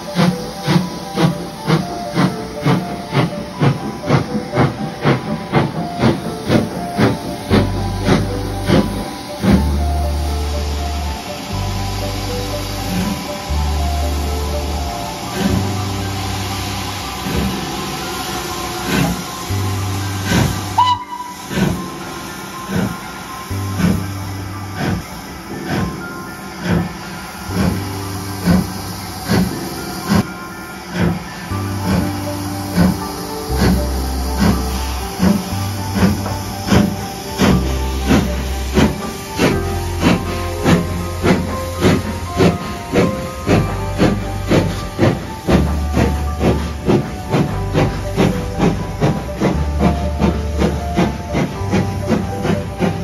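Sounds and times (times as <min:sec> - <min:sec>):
steam hissing: 0:00.0 - 0:53.0
steam locomotive chuffing: 0:00.0 - 0:53.0.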